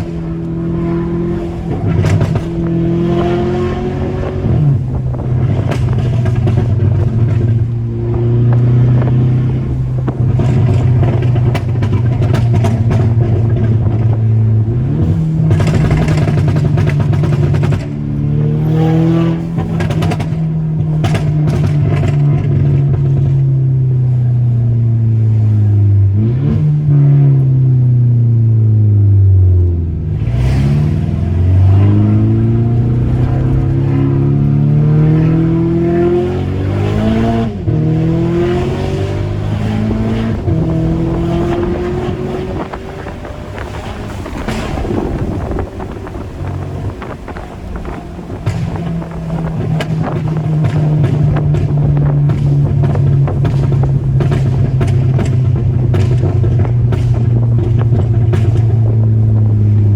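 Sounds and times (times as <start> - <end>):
car engine running: 0.0 - 59.9
exhaust pops and crackles: 0.0 - 59.9.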